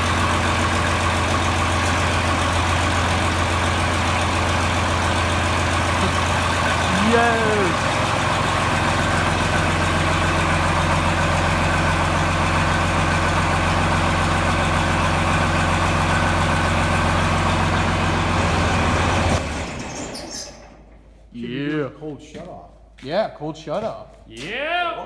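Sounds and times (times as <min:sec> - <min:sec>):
diesel tractor engine running: 0:00.0 - 0:21.1.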